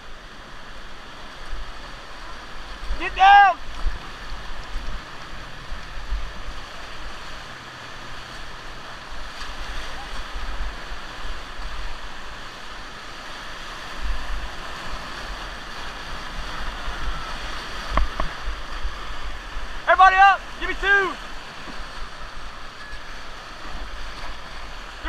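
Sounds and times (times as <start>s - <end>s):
whitewater rushing and churning: 0.0s - 25.0s.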